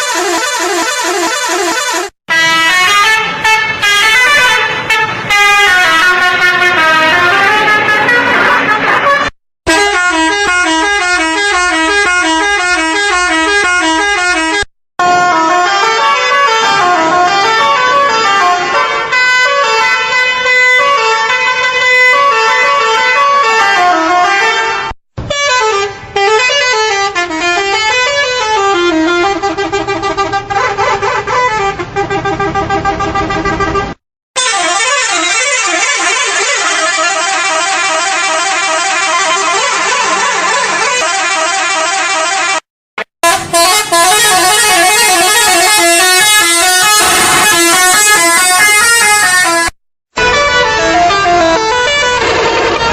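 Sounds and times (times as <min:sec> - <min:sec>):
multi-tone truck horn playing tunes: 0:00.0 - 0:52.9.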